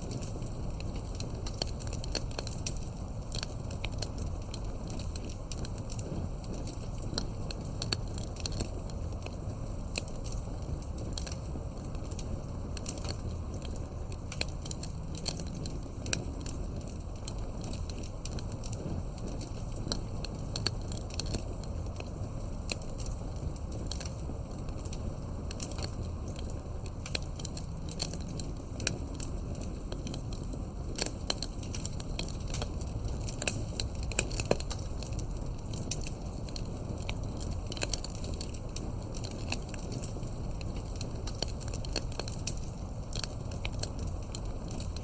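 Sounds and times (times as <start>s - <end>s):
campfire popping and snapping: 0.0s - 45.0s
low steady fire rumble: 0.0s - 45.0s.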